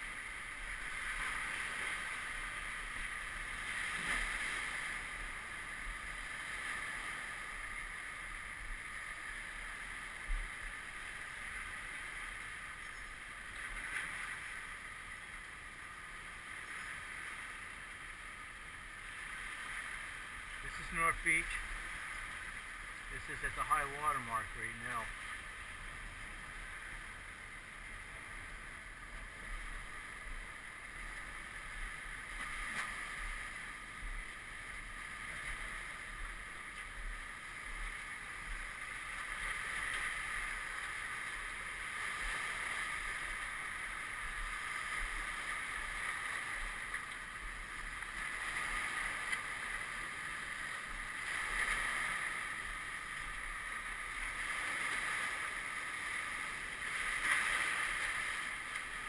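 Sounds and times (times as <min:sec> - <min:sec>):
lake water lapping at shoreline: 0:00.0 - 0:59.0.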